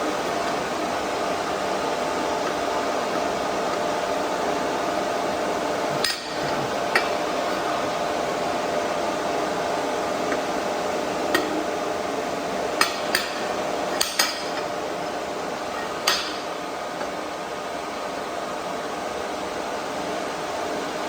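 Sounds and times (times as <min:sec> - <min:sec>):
machine fan hum: 0:00.0 - 0:21.0.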